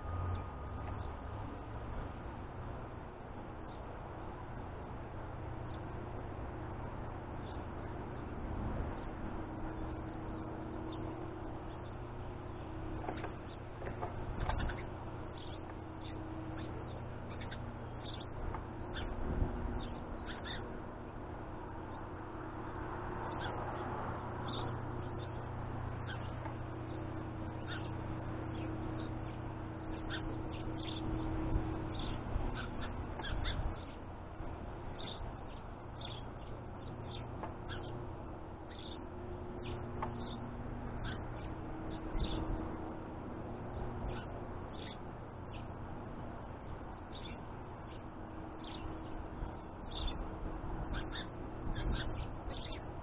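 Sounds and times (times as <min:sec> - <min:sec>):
birds chirping: 0:00.0 - 0:53.0
steady low hum: 0:00.0 - 0:53.0.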